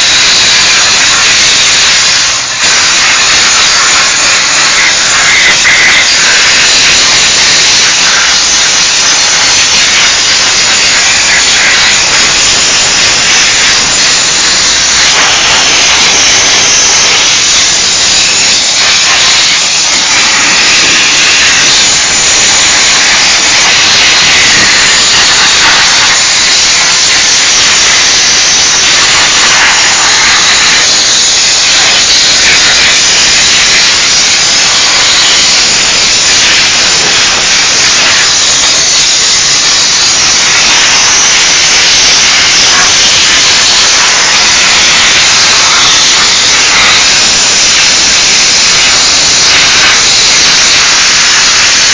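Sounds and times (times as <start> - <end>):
steam cleaner hissing: 0.0 - 51.9.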